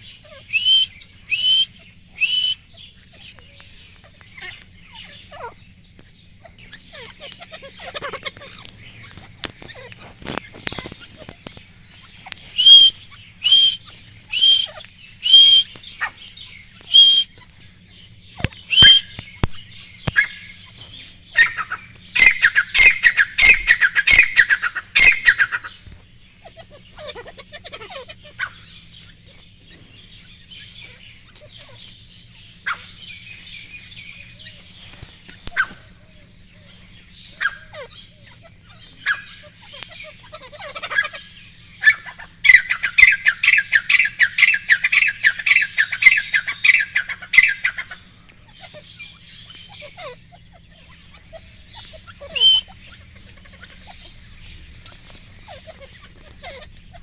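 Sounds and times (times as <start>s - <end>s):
francolins calling: 0.0s - 57.0s.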